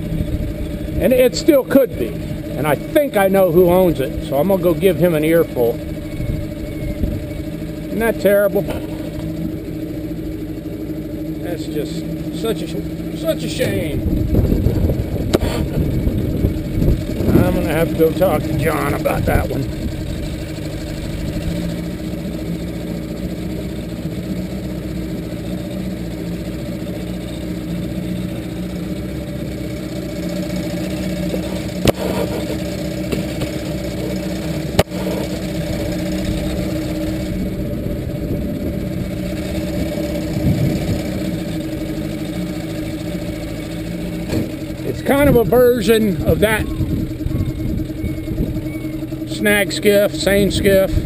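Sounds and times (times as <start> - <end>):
outboard motor running: 0.0 - 51.0.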